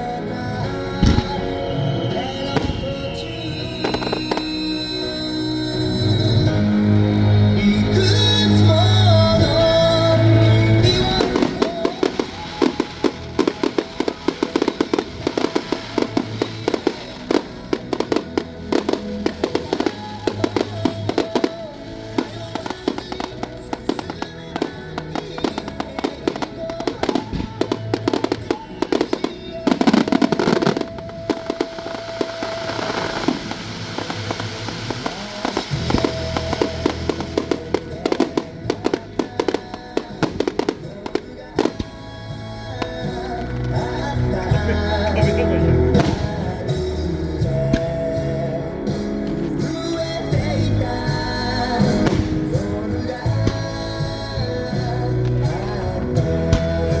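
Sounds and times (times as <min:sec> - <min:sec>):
fireworks crackling and popping: 0:00.0 - 0:57.0
music over sound system: 0:00.0 - 0:57.0.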